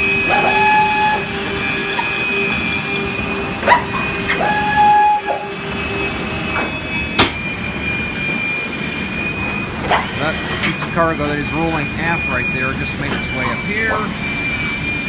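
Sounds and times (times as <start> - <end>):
cargo loader motor hum: 0.0 - 15.0
short motor whine: 0.0 - 15.0.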